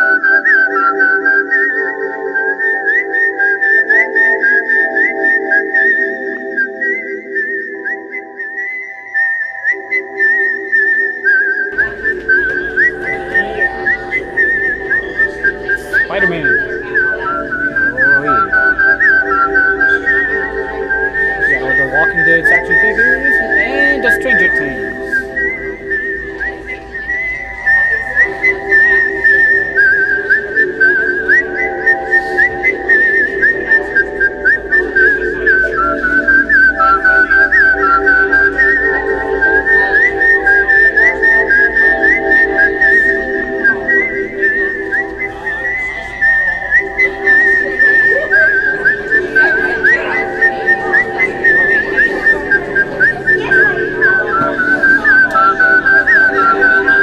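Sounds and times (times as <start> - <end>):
high wavering whistle-like tone: 0.0 - 57.0.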